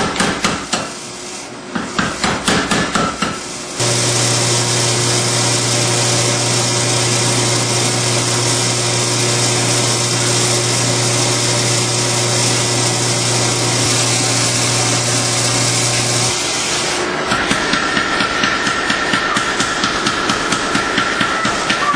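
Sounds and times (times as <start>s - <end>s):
forge fire and blower rushing: 3.6s - 21.2s.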